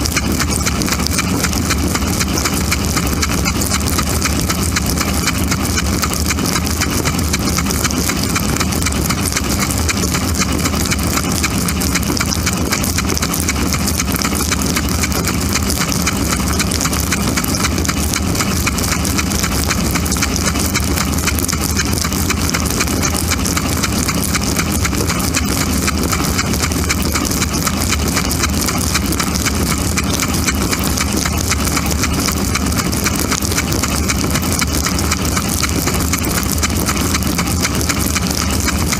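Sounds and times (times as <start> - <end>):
pump motor hum: 0.0 - 38.9
water drumming on dishes: 0.0 - 38.9.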